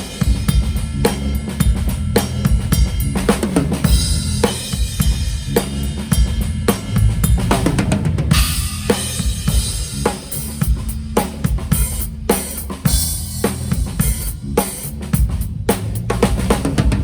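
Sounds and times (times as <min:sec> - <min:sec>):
cymbals washing: 0:00.0 - 0:16.9
drum kit groove: 0:00.0 - 0:17.0
low pitched bass line: 0:00.0 - 0:17.0.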